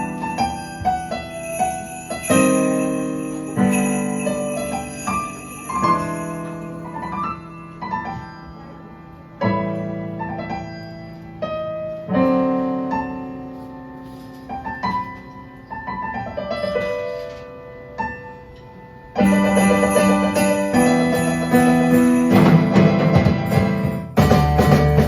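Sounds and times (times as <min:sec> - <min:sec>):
keyboard piano chords: 0:00.0 - 0:25.0.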